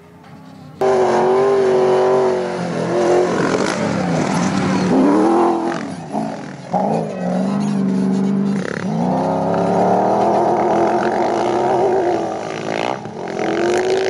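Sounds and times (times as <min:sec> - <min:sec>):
truck engine revving hard: 0:00.8 - 0:14.0.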